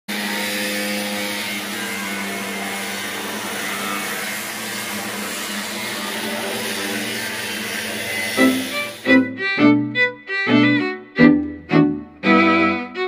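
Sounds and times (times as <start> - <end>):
angle grinder cutting metal: 0.1 - 10.6.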